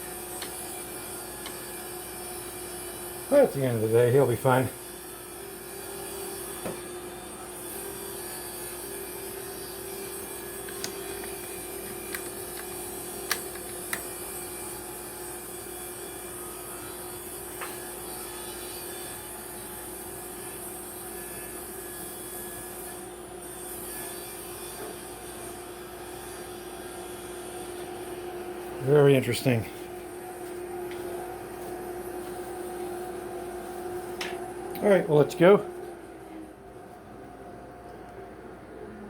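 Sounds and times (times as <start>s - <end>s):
workshop machine humming: 0.0s - 39.0s.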